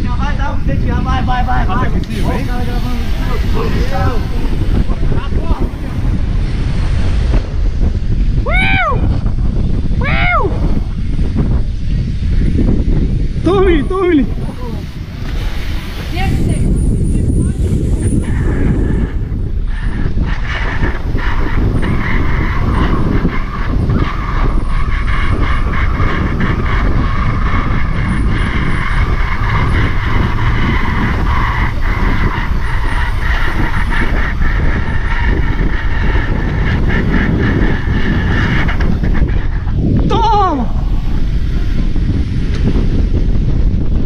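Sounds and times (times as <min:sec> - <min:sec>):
bicycle tyre rumble: 0:00.0 - 0:44.0
bicycle whir and rattles: 0:00.0 - 0:44.0
wind on microphone: 0:00.0 - 0:44.0.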